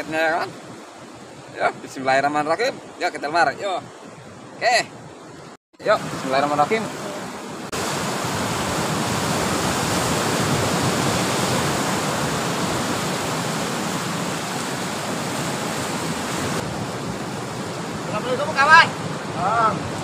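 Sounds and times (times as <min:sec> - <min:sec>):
sea surf washing ashore: 0:00.0 - 0:20.0.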